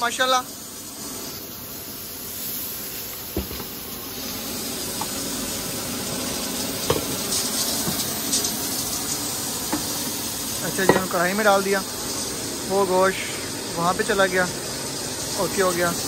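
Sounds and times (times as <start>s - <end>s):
steam hissing from pressure cooker: 0.0s - 16.0s.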